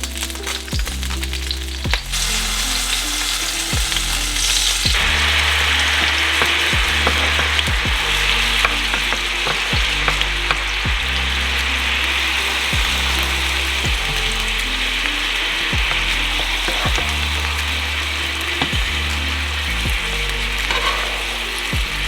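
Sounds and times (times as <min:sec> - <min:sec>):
background music with drum beat: 0:00.0 - 0:22.0
fish sizzling in a pan: 0:00.0 - 0:22.0.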